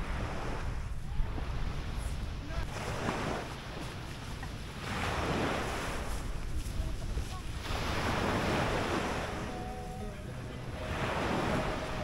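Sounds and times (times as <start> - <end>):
small waves washing onto beach: 0.0 - 12.0
wind rumble on microphone: 0.0 - 12.0.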